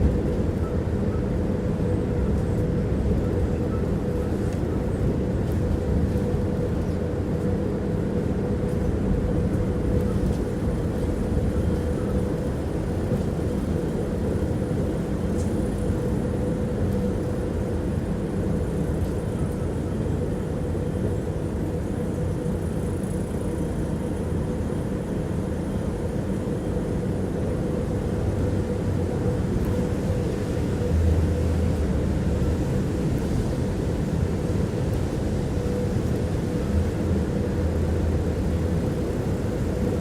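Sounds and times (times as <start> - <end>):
constant hum: 0.0 - 40.0
tram wheels rumbling on rails: 0.0 - 40.0.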